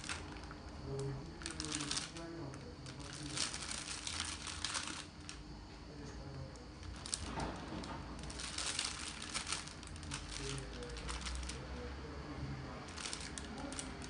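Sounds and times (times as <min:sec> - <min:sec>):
plastic piping bag crinkling: 0:00.0 - 0:05.5, 0:06.2 - 0:11.9, 0:12.7 - 0:14.0.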